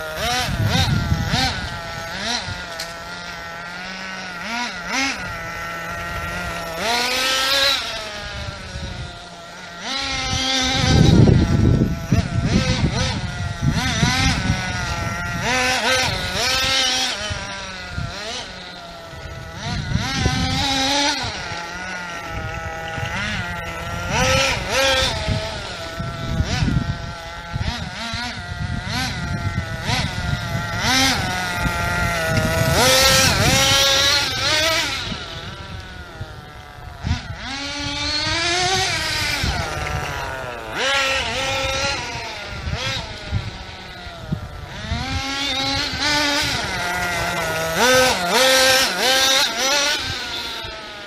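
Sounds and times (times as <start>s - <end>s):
toy truck engine revving: 0.0s - 51.0s.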